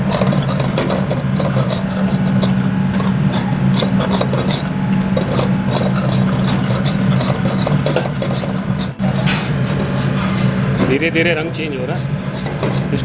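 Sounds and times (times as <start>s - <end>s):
metal ladle scraping pan: 0.0s - 13.0s
steady low hum: 0.0s - 13.0s.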